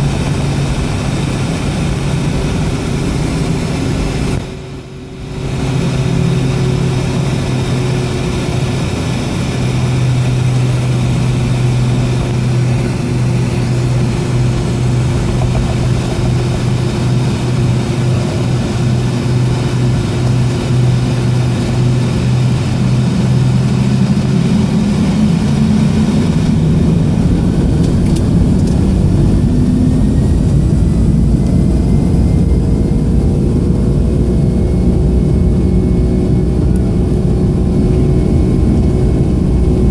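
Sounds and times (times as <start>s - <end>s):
faint rising whine: 0.0s - 39.9s
jet engines hum in cabin: 0.0s - 39.9s.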